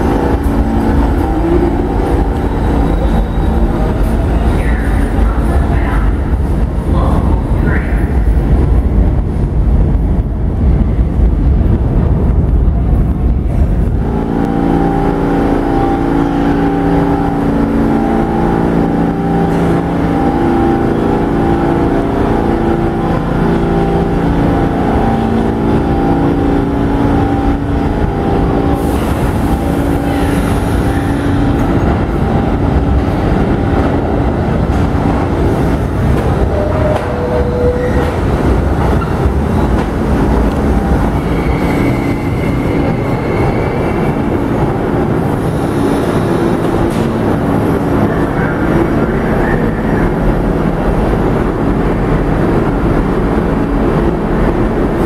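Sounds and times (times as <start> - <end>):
subway train motor hum: 0.0 - 55.0
subway train rumbling out: 0.0 - 55.0.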